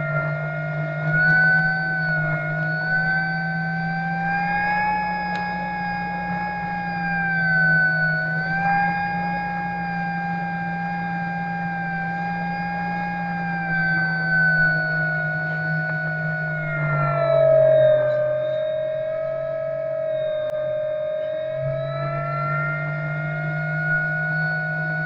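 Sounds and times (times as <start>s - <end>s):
model plane motor whining: 0.0s - 25.0s.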